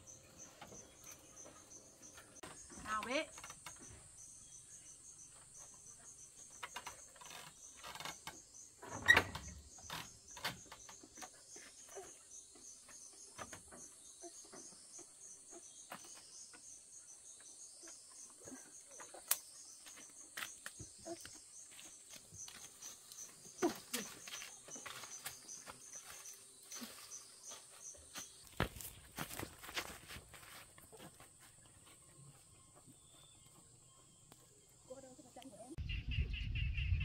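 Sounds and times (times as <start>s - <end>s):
insects chirping: 0.0s - 35.8s.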